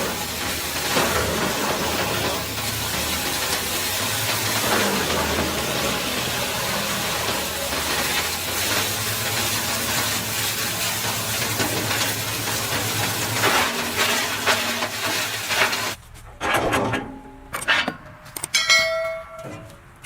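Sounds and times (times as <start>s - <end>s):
wood chipper running: 0.0s - 16.5s.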